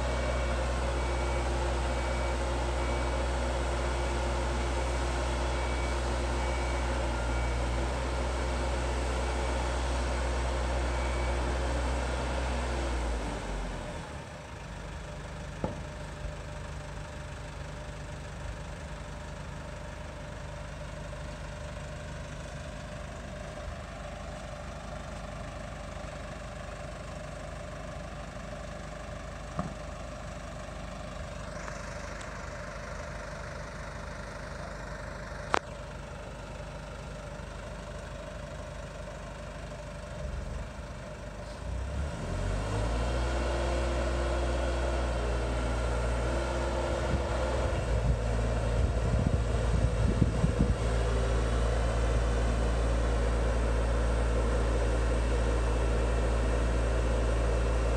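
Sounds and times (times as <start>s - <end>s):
engine idling and revving: 0.0s - 57.9s.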